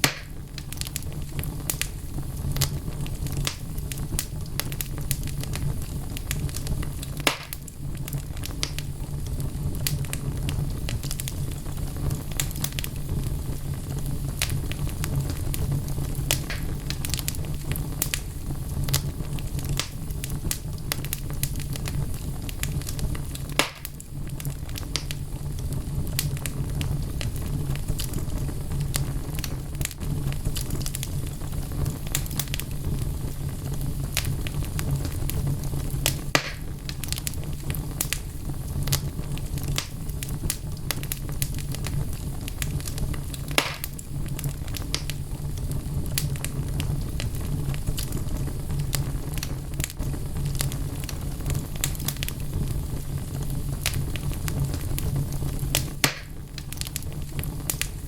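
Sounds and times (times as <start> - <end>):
logs crackling in fire: 0.0 - 58.0
loud fire pops: 0.0 - 58.0
low roar of fire: 0.0 - 58.0.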